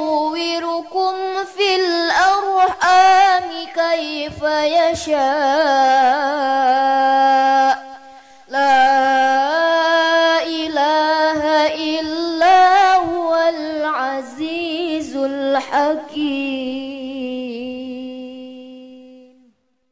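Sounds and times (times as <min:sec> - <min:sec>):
person chanting melodically: 0:00.0 - 0:19.5.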